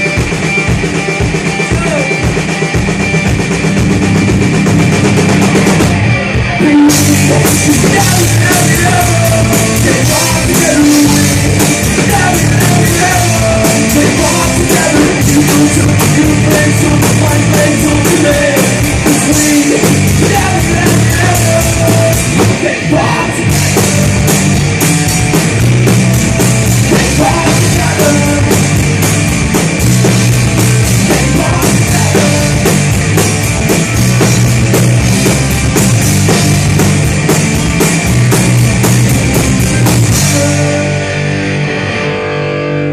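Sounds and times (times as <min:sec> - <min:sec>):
rock band playing live: 0:00.0 - 0:42.9.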